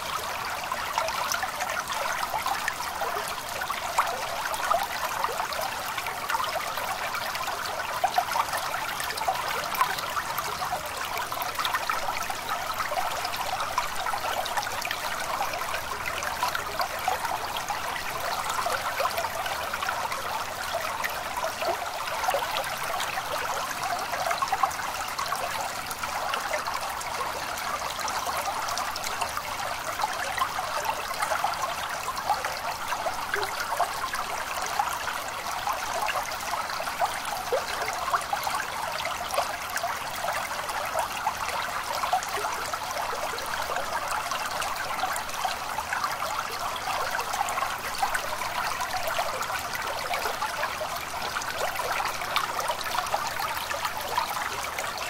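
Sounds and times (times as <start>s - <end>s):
small stream trickling: 0.0s - 55.0s.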